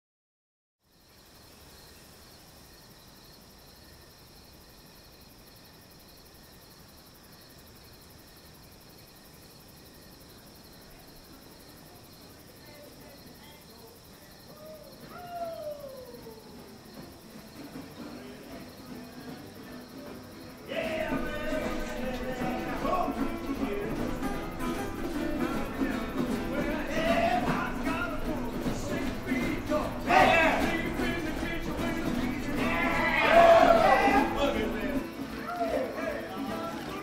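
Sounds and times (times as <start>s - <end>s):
insects chirping: 0.8s - 37.0s
soft hiss: 0.9s - 37.0s.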